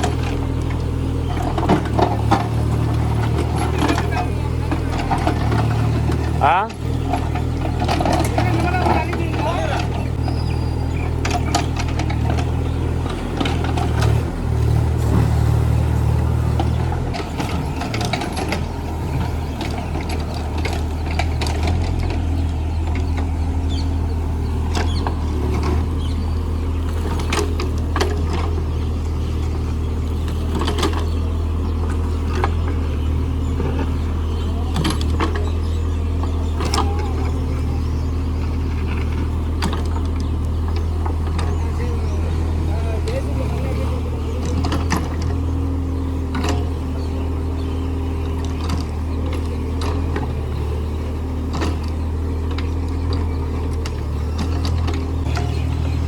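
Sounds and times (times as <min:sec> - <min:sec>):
excavator bucket clanking: 0:00.0 - 0:56.0
excavator engine running: 0:00.0 - 0:56.0.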